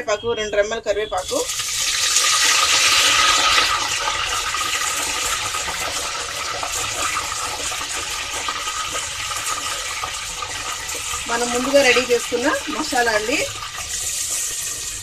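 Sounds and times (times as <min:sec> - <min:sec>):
leaves sizzling in hot oil: 0:01.1 - 0:15.0.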